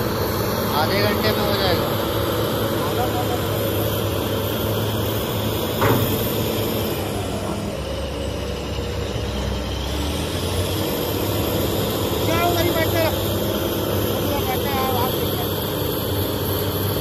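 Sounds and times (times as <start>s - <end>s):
excavator diesel engine working: 0.0s - 17.0s.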